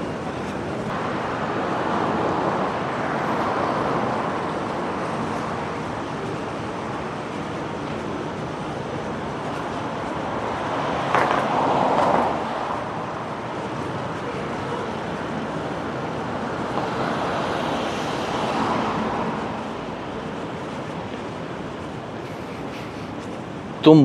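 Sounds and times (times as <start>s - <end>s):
city street traffic: 0.0s - 24.0s.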